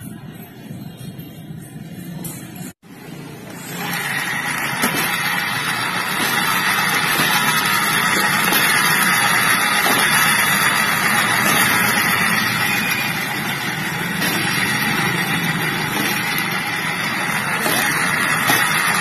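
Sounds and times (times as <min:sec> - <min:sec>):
scooter engine rough rumble: 0:03.6 - 0:19.0.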